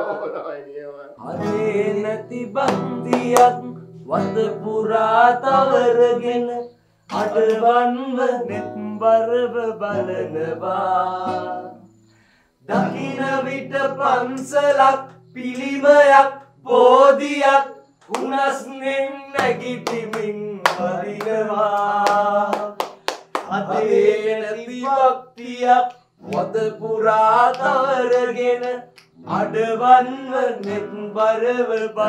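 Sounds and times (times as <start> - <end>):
men singing loudly: 1.2 - 11.8, 12.7 - 32.0
strummed acoustic guitar: 1.2 - 11.9, 12.6 - 17.3, 19.3 - 24.5, 25.9 - 32.0.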